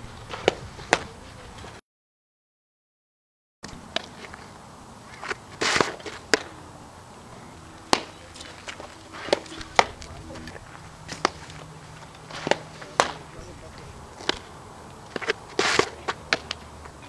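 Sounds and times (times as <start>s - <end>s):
outdoor background noise: 0.0s - 1.8s, 3.6s - 17.0s.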